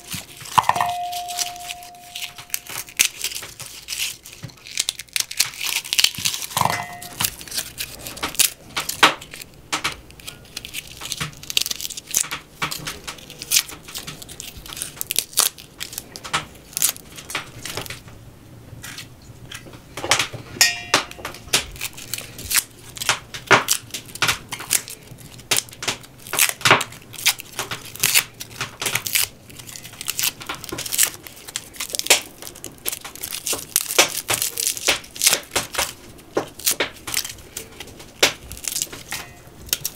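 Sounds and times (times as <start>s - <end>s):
garlic skins crackling: 0.0s - 18.2s, 18.8s - 39.9s.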